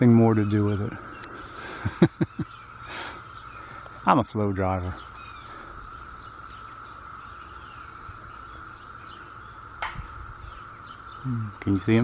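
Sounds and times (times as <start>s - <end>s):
faint bird chirps: 0.0s - 12.0s
insects droning: 0.0s - 12.0s.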